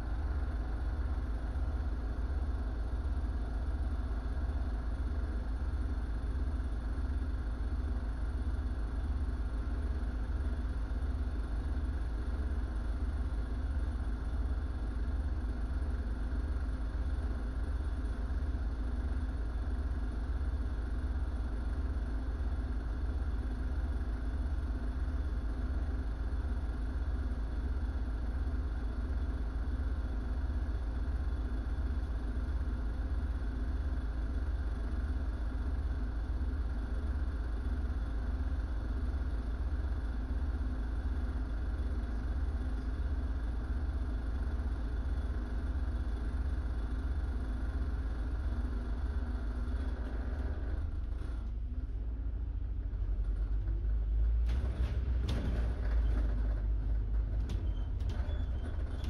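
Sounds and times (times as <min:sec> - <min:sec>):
bus engine idling: 0:00.0 - 0:59.0.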